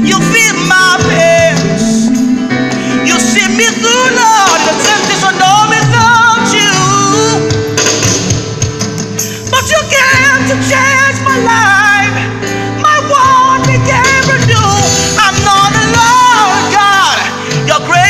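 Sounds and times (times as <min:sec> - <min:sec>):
man singing gospel: 0:00.0 - 0:07.7, 0:09.4 - 0:18.0.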